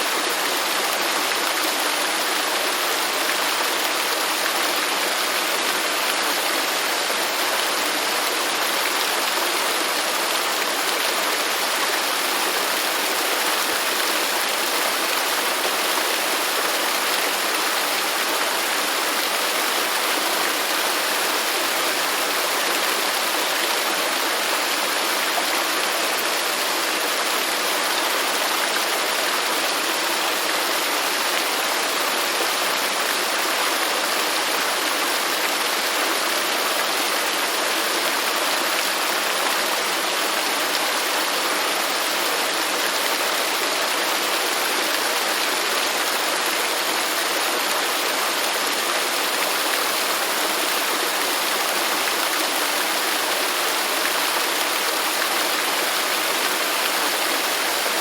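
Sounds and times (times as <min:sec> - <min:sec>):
waterfall pouring and splashing: 0:00.0 - 0:58.0.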